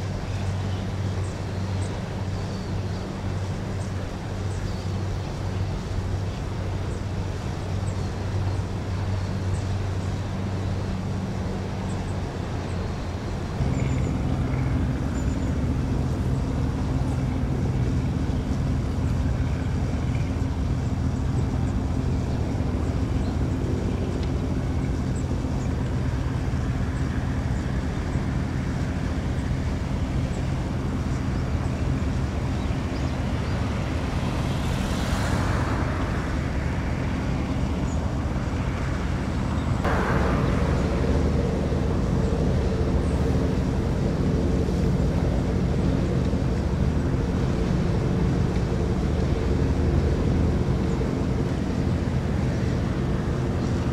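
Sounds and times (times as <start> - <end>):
low engine hum: 0.0 - 53.9.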